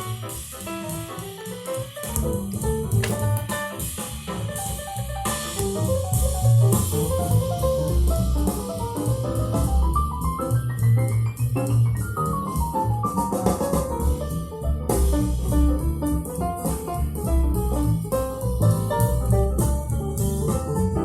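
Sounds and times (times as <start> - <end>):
jazz music through loudspeakers: 0.0 - 21.0.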